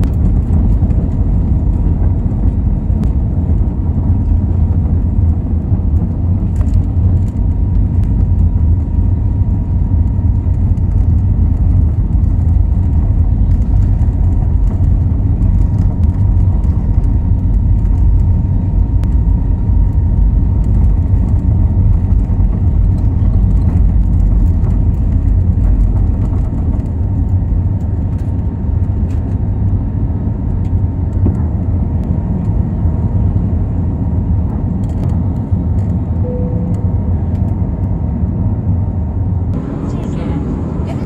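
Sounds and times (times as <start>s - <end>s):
jet engines high tone: 0.0s - 41.0s
low runway rumble: 0.0s - 41.0s.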